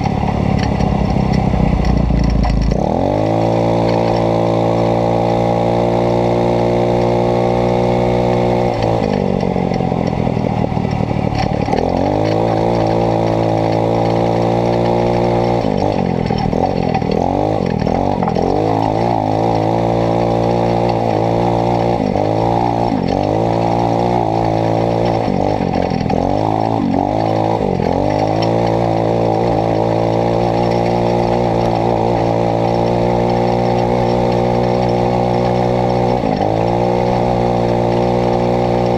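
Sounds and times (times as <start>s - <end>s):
dune buggy engine revving: 0.0s - 38.9s.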